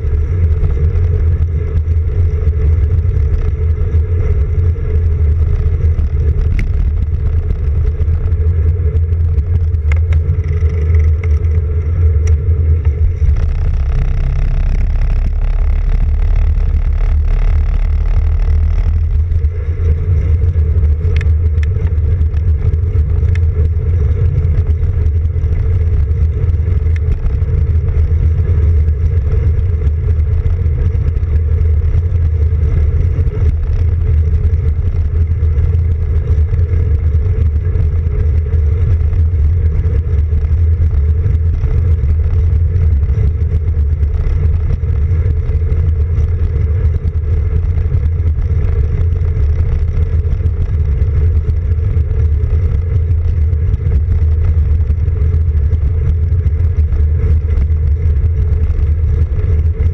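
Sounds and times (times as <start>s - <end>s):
bike tyre rumble on pavement: 0.0s - 59.9s
wind on microphone: 0.0s - 59.9s.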